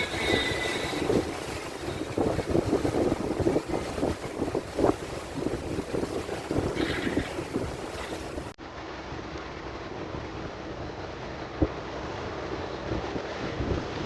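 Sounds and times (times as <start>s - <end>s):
boat engine and water rush: 0.0s - 14.0s
wind buffeting microphone: 0.0s - 14.0s.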